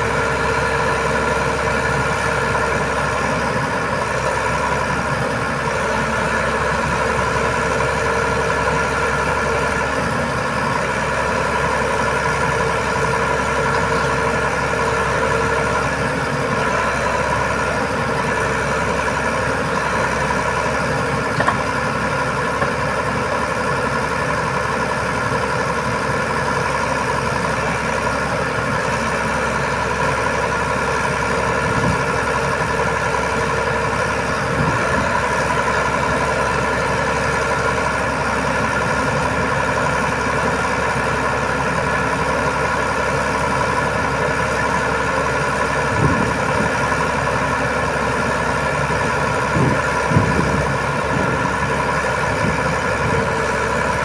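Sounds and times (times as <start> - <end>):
truck diesel engine idling: 0.0 - 54.0.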